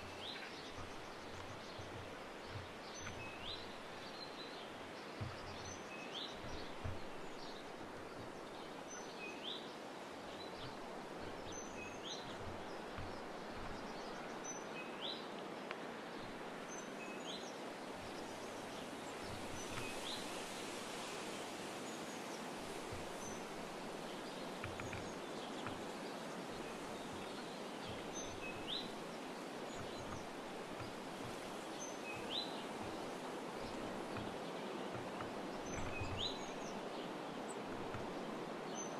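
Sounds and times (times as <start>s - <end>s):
soft low knocks: 0.0s - 9.1s, 10.3s - 14.5s, 17.9s - 20.7s, 22.6s - 38.5s
outdoor background hiss: 0.0s - 38.9s.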